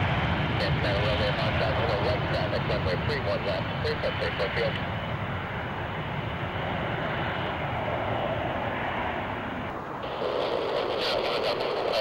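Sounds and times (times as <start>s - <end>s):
higher pulsing aircraft engine: 0.0s - 12.0s
jet engines roaring: 0.0s - 12.0s.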